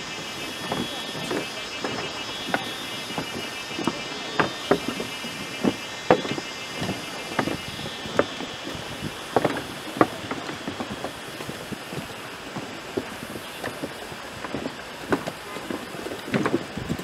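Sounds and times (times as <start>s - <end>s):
high-pitched drone: 0.0s - 14.0s
footsteps on wooden deck: 0.0s - 17.0s.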